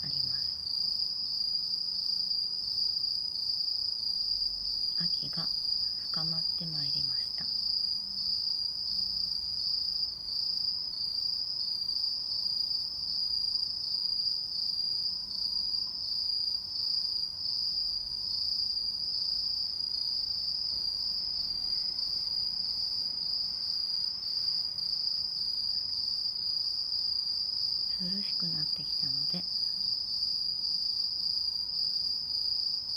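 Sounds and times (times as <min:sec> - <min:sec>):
insects trilling: 0:00.0 - 0:32.6.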